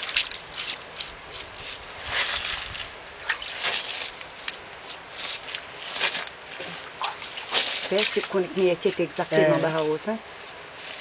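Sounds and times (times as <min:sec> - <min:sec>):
hand washing mud off stone: 0:00.0 - 0:11.0.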